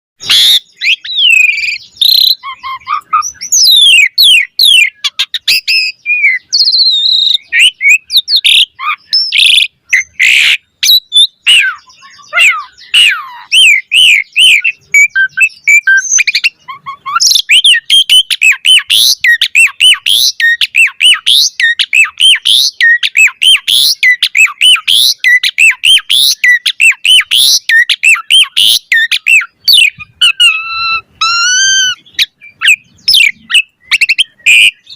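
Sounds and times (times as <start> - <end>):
starling singing: 0.2 - 34.9.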